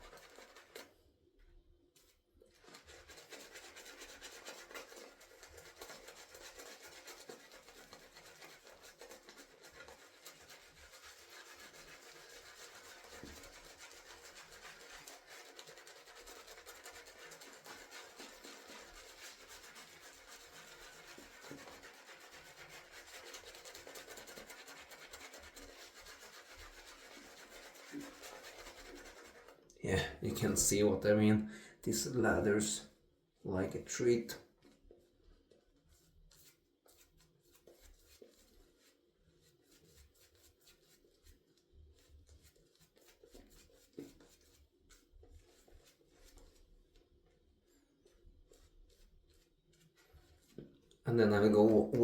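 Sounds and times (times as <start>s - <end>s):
shaving brush rubbing lather: 0.0s - 0.9s, 2.0s - 32.9s, 33.5s - 34.4s, 35.5s - 52.0s.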